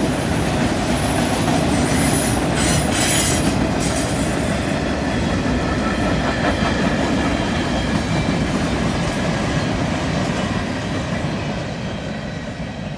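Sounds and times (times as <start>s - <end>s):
train wheels clacking on rails: 0.0s - 12.9s.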